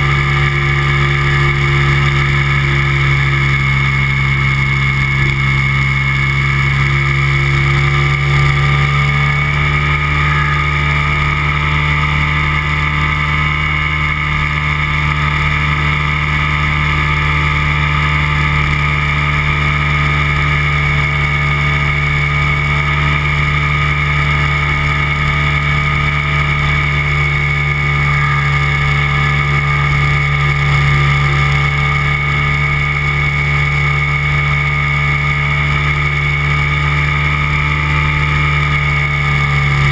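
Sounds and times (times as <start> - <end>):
engine and propeller droning: 0.0 - 39.9.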